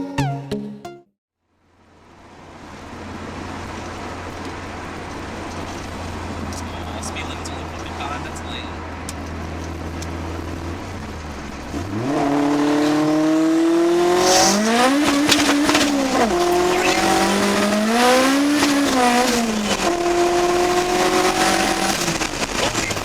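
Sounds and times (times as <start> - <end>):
car engine revving hard: 2.3 - 23.0.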